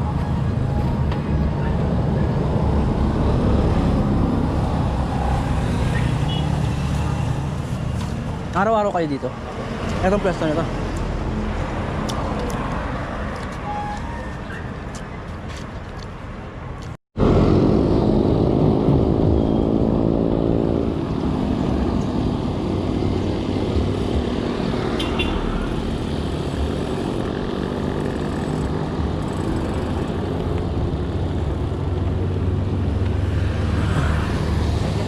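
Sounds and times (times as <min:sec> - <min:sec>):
road traffic with low hum: 0:00.0 - 0:35.0.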